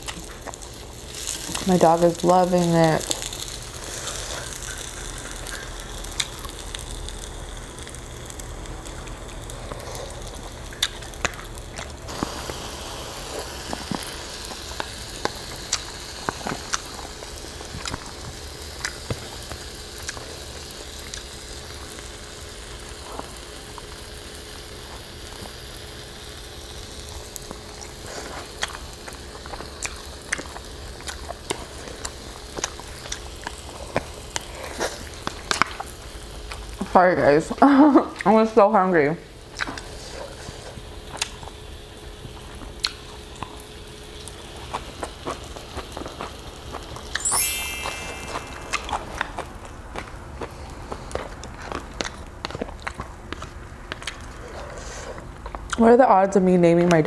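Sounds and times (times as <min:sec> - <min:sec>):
meat sizzling on a grill plate: 0:00.0 - 0:49.4.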